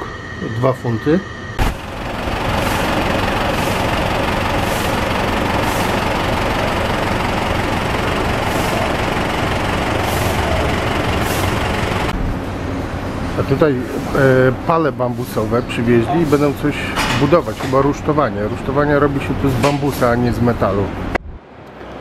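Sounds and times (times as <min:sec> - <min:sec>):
minibus engines idling: 0:01.6 - 0:21.2.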